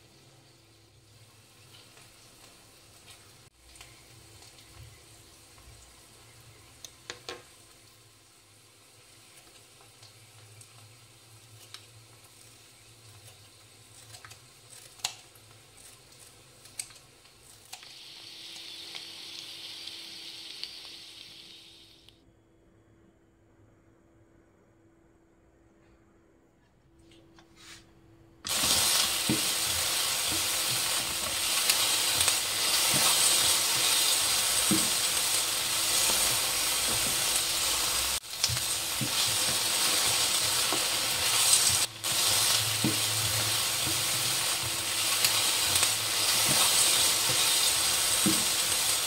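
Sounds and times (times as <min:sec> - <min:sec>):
oil sizzling in a pan: 0:00.0 - 0:22.1, 0:28.5 - 0:49.0.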